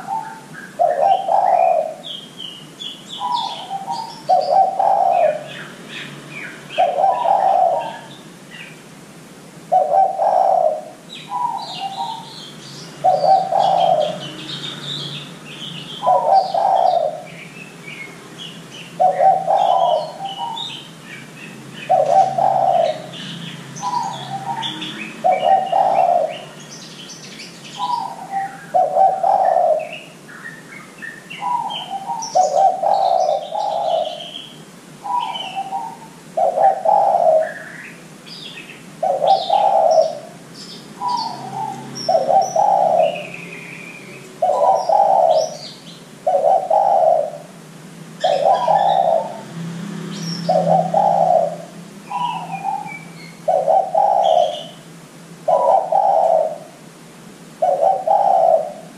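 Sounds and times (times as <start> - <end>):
dove cooing: 0.0 - 5.7, 6.3 - 8.7, 9.7 - 21.2, 21.8 - 26.7, 27.7 - 30.2, 31.3 - 37.9, 39.0 - 40.4, 41.0 - 43.8, 44.4 - 47.6, 48.2 - 49.5, 50.4 - 54.8, 55.4 - 56.8, 57.6 - 58.9
small birds chirping faintly: 0.0 - 58.9.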